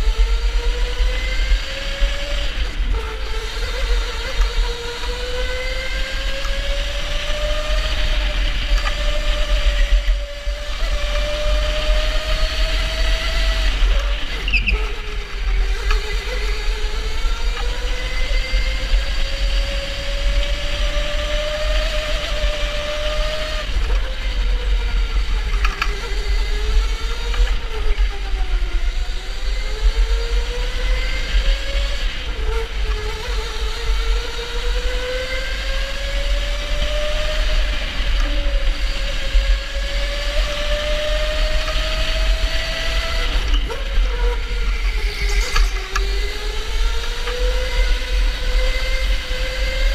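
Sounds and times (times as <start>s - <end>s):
electric go-kart motor whining: 0.0s - 49.9s.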